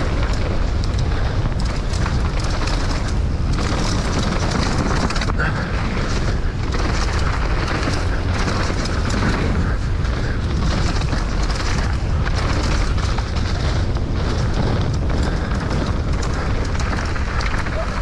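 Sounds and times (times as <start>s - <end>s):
bike clattering: 0.0s - 18.0s
tyres rolling on dirt: 0.0s - 18.0s
wind buffeting microphone: 0.0s - 18.0s.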